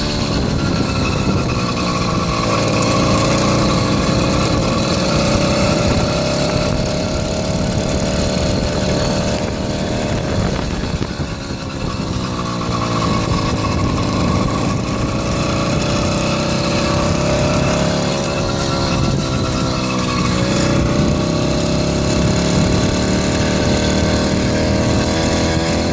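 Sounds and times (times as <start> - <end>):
two-stroke engine running: 0.0 - 25.9.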